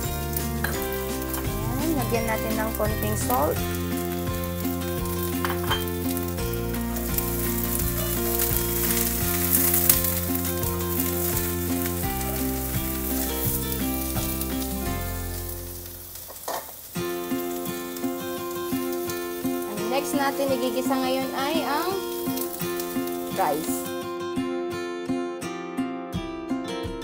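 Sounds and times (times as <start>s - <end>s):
cabbage sizzling in hot oil: 0.0s - 24.0s.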